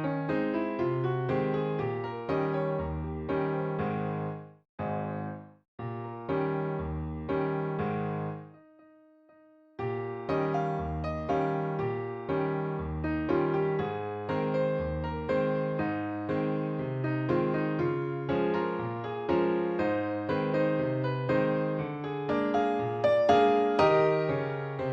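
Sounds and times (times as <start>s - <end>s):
electric piano chords: 0.0s - 24.9s.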